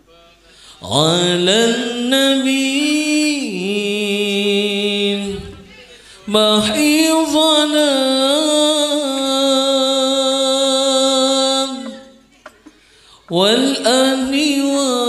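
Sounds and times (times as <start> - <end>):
man singing unaccompanied: 0.7 - 12.2, 13.2 - 15.0.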